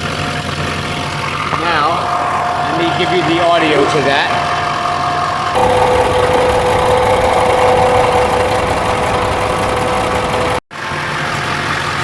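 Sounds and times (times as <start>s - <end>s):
engine hum through stethoscope: 0.0s - 12.0s
truck engine idling: 0.0s - 12.0s.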